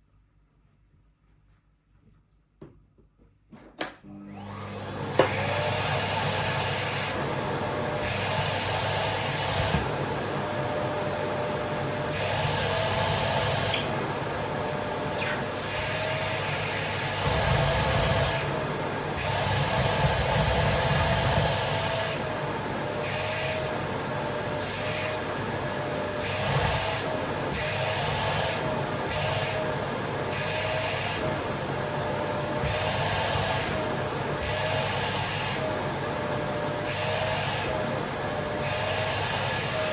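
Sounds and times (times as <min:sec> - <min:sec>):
vacuum cleaner running: 0:03.7 - 0:39.9.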